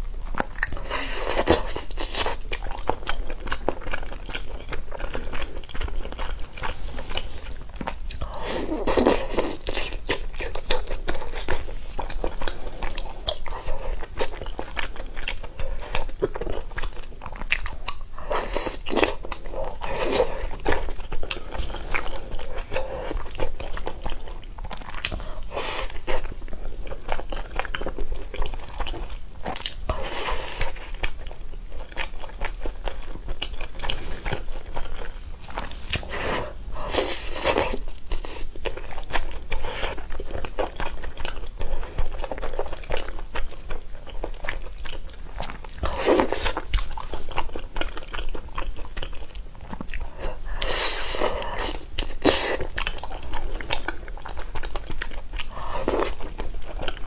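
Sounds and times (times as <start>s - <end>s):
chewing food: 0.0s - 57.0s.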